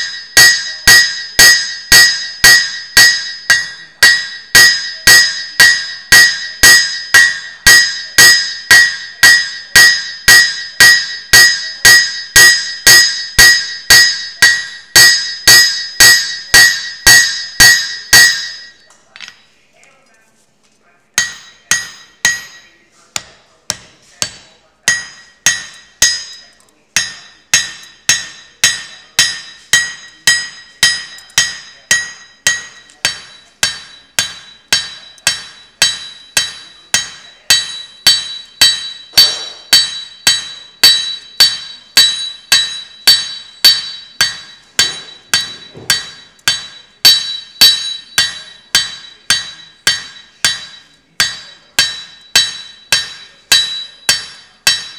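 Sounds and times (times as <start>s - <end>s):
hammer striking copper on anvil: 0.0s - 19.6s, 21.1s - 54.9s.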